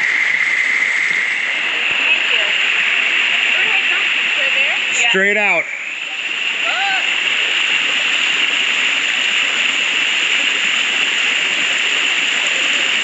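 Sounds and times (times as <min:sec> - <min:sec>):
waterfall pouring into pool: 0:00.0 - 0:13.0.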